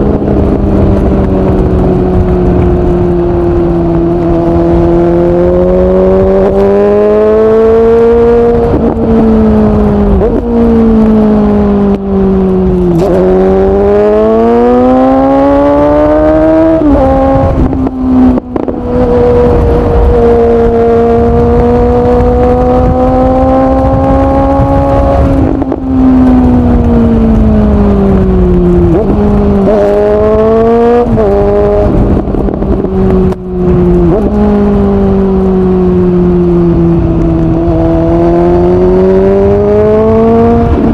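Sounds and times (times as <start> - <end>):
loud motorcycle engine revving: 0.0 - 40.9.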